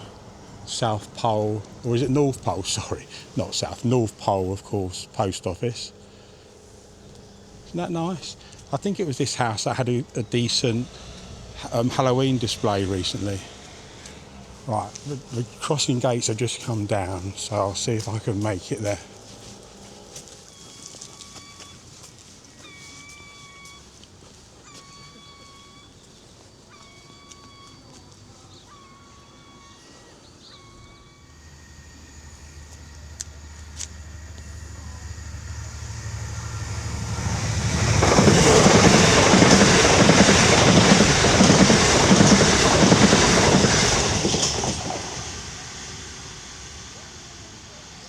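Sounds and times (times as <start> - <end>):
train passing loudly: 0.0 - 21.9, 28.8 - 48.0
level-crossing warning alarm: 0.0 - 48.0.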